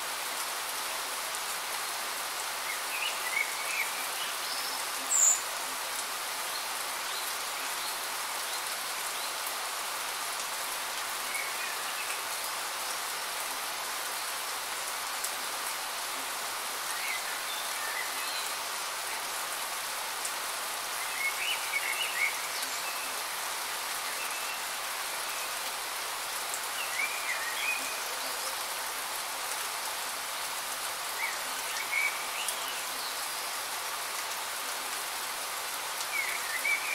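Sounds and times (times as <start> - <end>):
steady rain hiss: 0.0 - 36.9.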